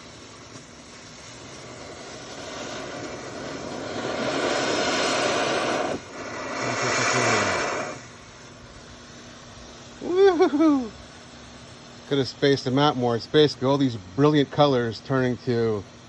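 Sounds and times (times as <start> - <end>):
smoke devices hissing: 0.0 - 16.0.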